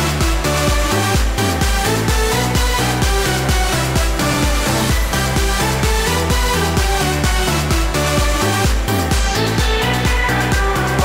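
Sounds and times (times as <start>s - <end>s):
electronic dance-pop music: 0.0s - 11.0s.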